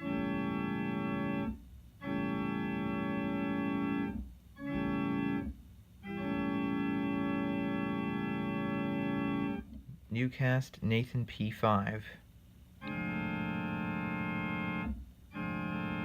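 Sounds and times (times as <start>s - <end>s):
keyboard organ chord horn blasts: 0.0s - 9.7s, 12.8s - 16.0s.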